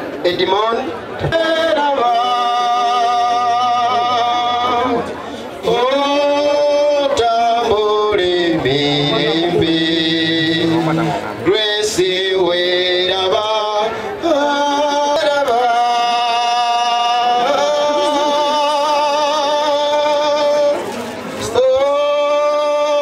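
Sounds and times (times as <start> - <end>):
man singing with vibrato: 0.0 - 23.0.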